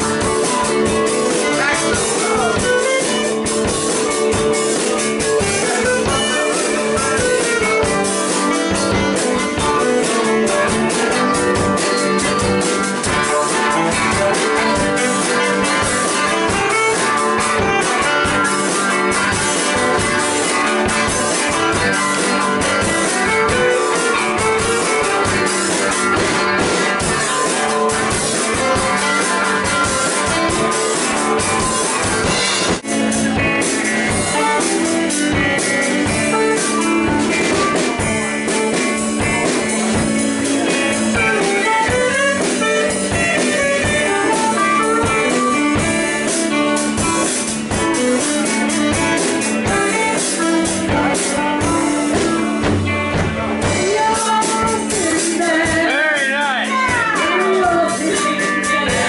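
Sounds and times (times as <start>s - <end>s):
saxophone: 0.0s - 56.0s, 56.6s - 59.0s
drum kit: 0.0s - 59.0s
electric guitars: 0.0s - 59.0s.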